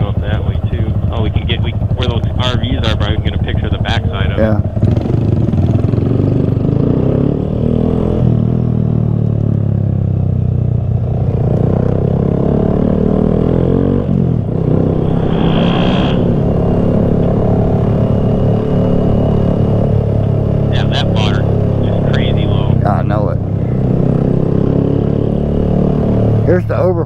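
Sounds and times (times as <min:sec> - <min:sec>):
minibike engine revving: 0:00.0 - 0:09.1, 0:09.8 - 0:15.2, 0:17.0 - 0:27.0.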